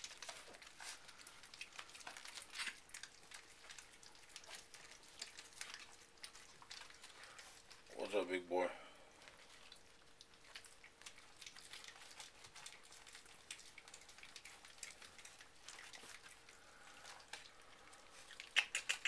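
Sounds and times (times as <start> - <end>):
faint hum: 0.0 - 18.9
faint ticks and crackles: 0.0 - 19.0.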